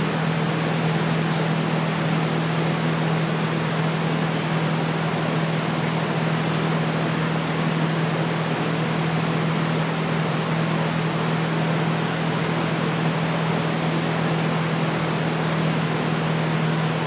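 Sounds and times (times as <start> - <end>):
fan blowing with low hum: 0.0 - 17.0.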